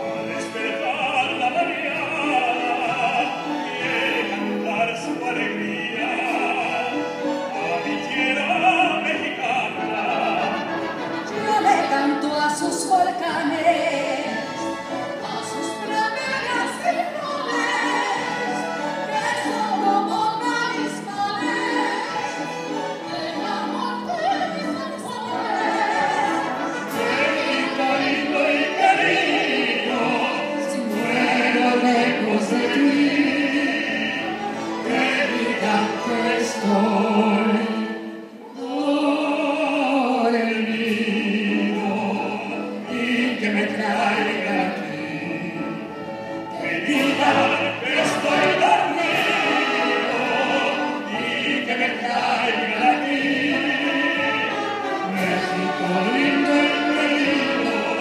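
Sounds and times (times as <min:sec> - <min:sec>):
orchestra with piano: 0:00.0 - 0:58.0.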